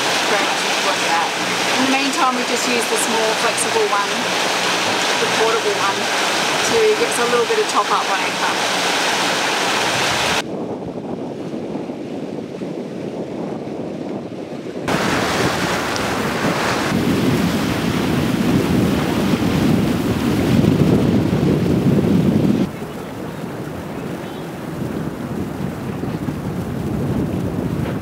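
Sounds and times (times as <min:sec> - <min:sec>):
water rushing past hull: 0:00.0 - 0:28.0
wind buffeting microphone: 0:00.0 - 0:28.0.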